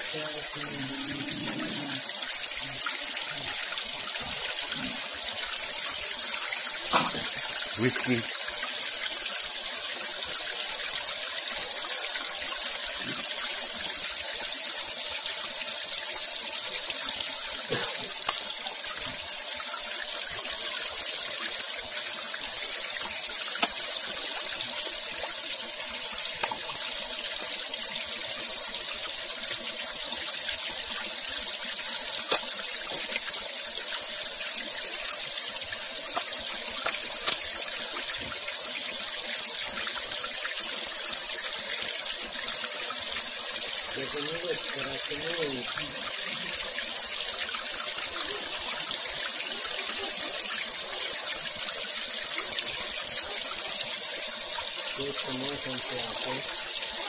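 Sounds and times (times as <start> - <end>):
water splashing into pond: 0.4 - 15.6, 16.3 - 57.0.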